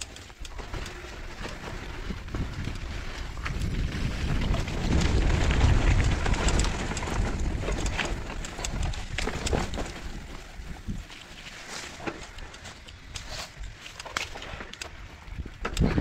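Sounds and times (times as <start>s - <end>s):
bike clicks and rattles: 0.0s - 16.0s
bike tyres rumbling on dirt: 0.0s - 16.0s.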